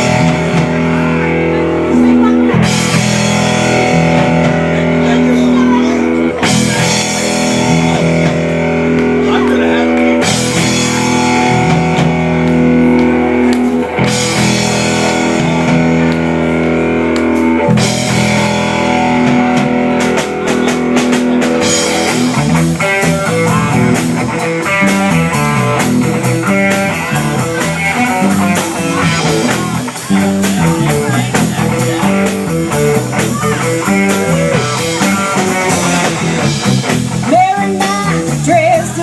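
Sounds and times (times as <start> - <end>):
drums: 0.0 - 39.0
electric guitar: 0.0 - 39.0.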